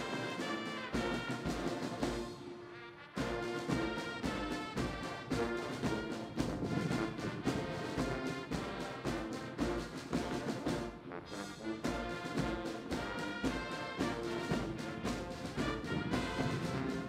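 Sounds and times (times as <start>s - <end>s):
steady drum beat: 0.0s - 2.5s, 3.2s - 17.0s
brass band music: 0.0s - 17.0s.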